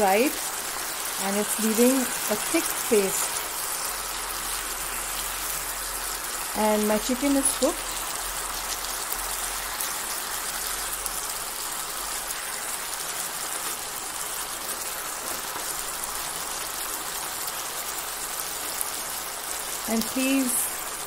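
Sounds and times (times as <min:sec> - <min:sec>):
sauce sizzling in a pan: 0:00.0 - 0:21.0.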